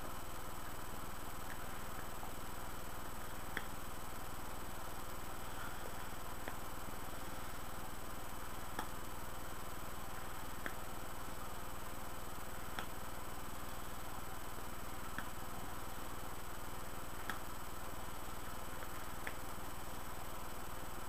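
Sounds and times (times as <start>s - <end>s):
steady hiss and hum: 0.0s - 21.0s.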